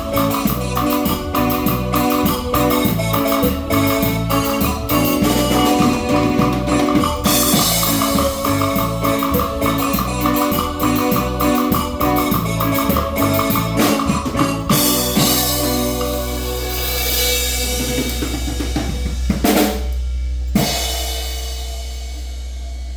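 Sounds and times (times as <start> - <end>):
keyboard: 0.0 - 21.2
bass: 0.0 - 22.9
percussion: 0.0 - 22.9.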